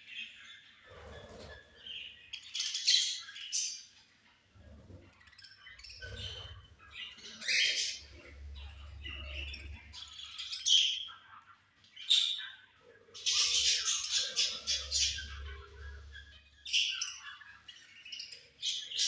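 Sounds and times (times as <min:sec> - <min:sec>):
budgerigars chirping and squawking: 0:00.0 - 0:19.0.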